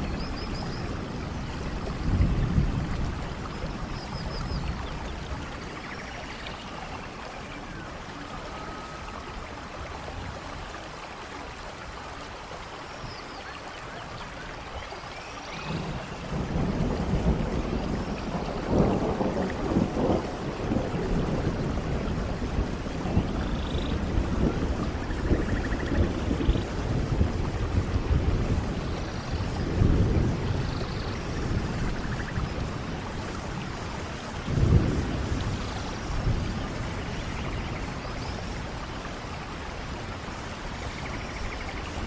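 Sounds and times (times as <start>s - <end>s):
thunder rumbling: 0.0s - 9.3s, 15.5s - 42.0s
steady rain: 0.0s - 42.0s.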